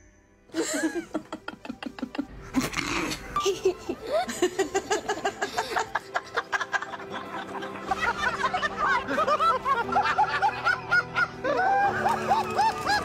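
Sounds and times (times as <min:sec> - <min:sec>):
background music: 0:00.0 - 0:13.0
people laughing: 0:00.6 - 0:13.0.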